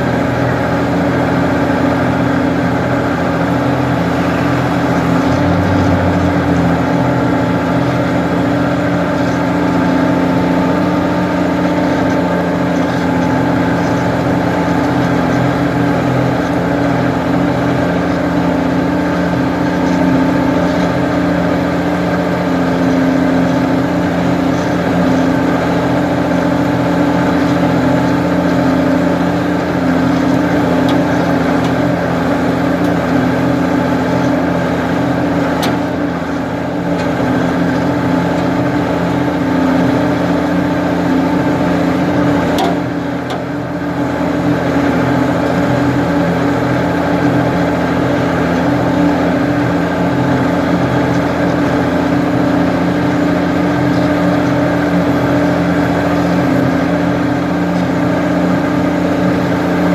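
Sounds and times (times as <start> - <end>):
backhoe engine droning: 0.0 - 59.9.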